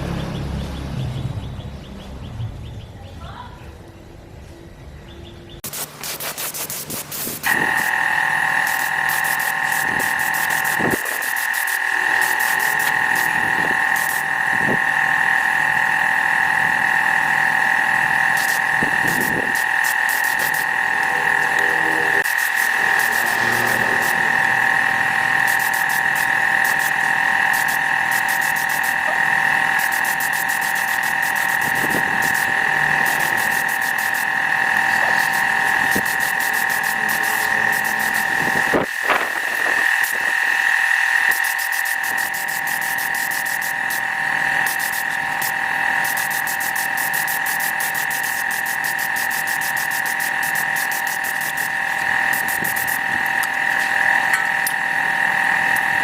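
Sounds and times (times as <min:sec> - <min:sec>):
shop machine motor whine: 0:03.8 - 0:56.0
rapid fine ticking: 0:05.6 - 0:56.0.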